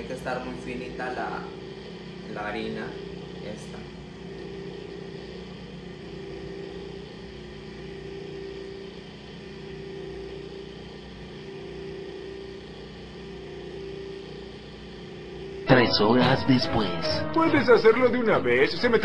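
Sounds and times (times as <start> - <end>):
kitchen grinder motor running: 0.0 - 15.6.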